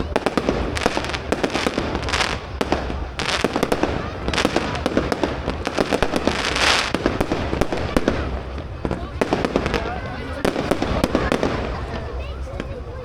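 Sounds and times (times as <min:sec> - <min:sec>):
crackling hiss: 0:00.0 - 0:12.8
fireworks bangs and pops: 0:00.0 - 0:13.0.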